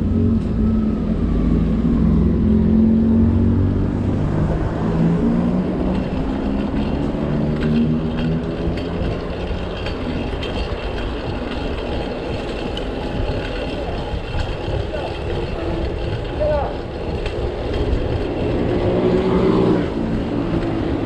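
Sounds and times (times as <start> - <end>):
low traffic rumble: 0.0 - 21.0
vehicle engine running: 0.0 - 21.0.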